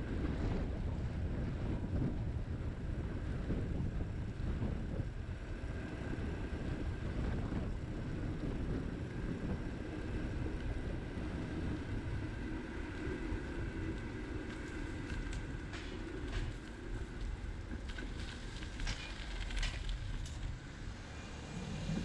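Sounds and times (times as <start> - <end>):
wheels rumbling on pavement: 0.0 - 22.0
wind rushing over microphone: 0.0 - 22.0.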